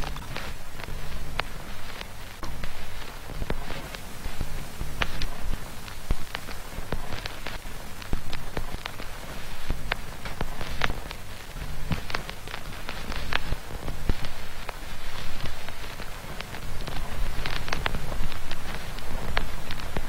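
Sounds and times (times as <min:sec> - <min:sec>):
irregular crackles and clicks: 0:00.0 - 0:20.0.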